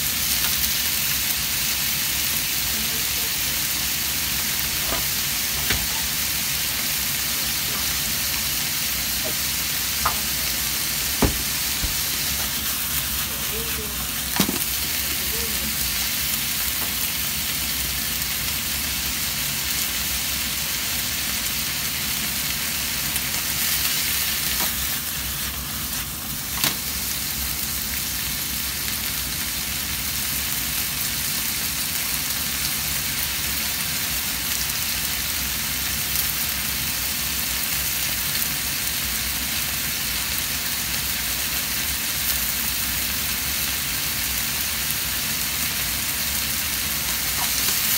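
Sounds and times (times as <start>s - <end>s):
food sizzling in a frying pan: 0.0s - 47.9s.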